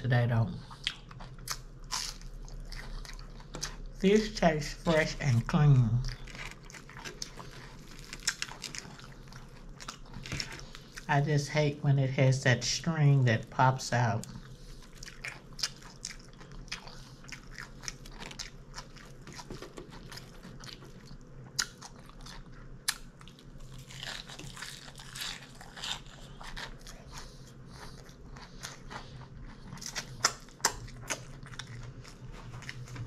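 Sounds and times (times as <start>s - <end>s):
faint low hum: 0.0s - 33.0s
person chewing crisp food: 0.6s - 11.1s, 14.2s - 33.0s.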